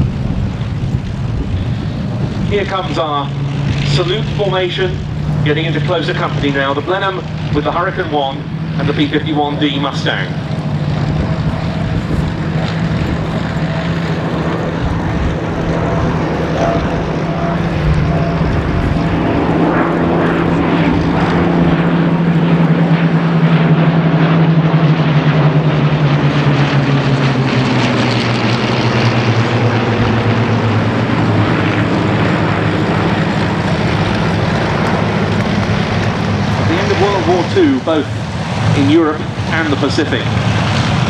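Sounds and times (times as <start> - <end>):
propeller aircraft engine drone: 0.0 - 41.0.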